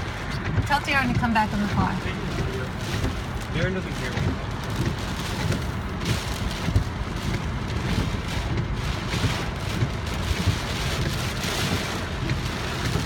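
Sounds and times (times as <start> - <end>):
rain: 0.0 - 13.0.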